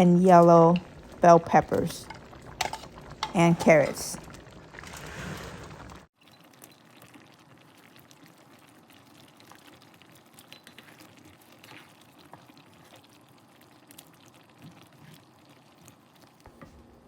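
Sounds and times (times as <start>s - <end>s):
curry simmering with bubbling: 0.0s - 16.6s.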